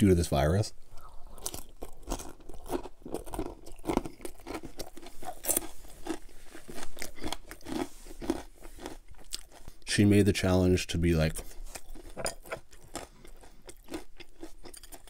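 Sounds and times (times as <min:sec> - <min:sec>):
chewing fried chicken: 0:00.9 - 0:09.9, 0:11.4 - 0:15.0.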